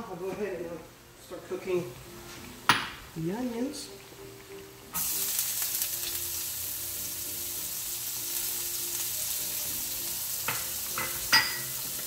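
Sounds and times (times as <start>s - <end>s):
onions frying in a pan: 0.1s - 12.0s
hot oil sizzling: 0.6s - 12.0s.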